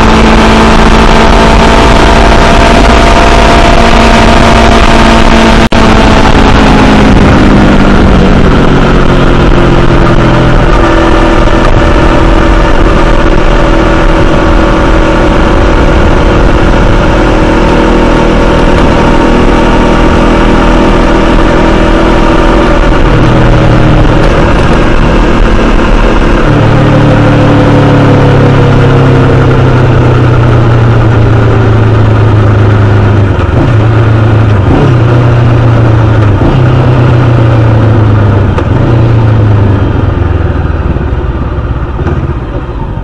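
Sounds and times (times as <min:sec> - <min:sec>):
motorcycle engine running: 0:00.0 - 0:43.0
wind and road rush: 0:00.0 - 0:43.0.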